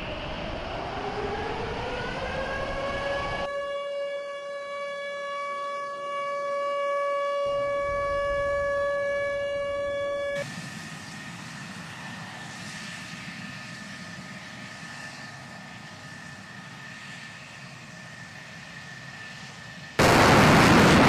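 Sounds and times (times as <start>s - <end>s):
jet engine hiss and whine: 0.0s - 4.5s, 7.4s - 21.0s.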